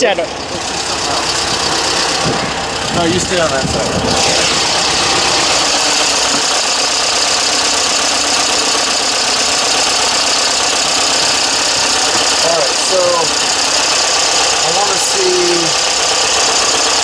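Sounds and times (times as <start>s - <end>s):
petrol engine idling: 0.0s - 17.0s.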